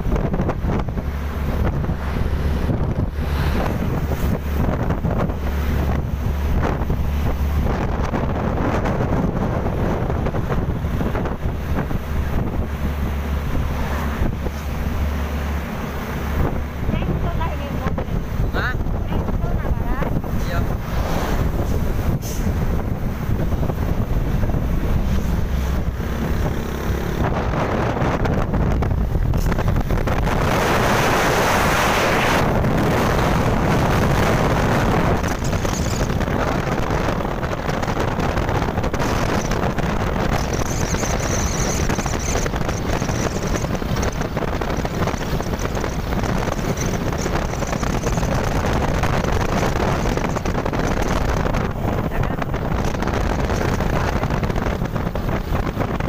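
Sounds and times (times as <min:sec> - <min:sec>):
vehicle road and engine noise: 0:00.0 - 0:56.0
wind buffeting microphone: 0:00.0 - 0:56.0.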